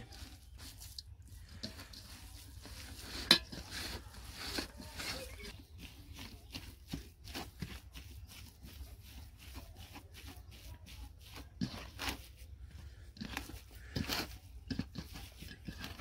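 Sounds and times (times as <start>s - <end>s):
hands kneading mince: 0.0s - 16.0s.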